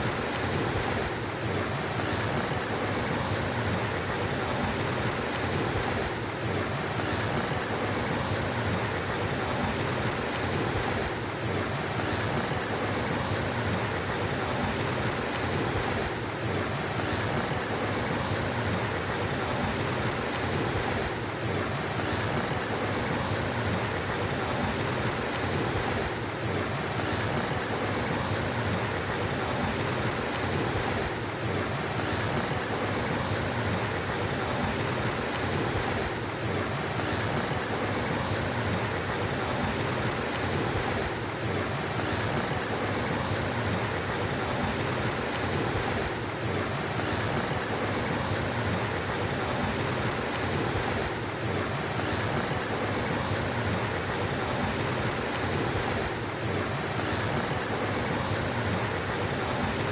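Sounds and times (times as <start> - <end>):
water flowing over rocks: 0.0 - 59.9.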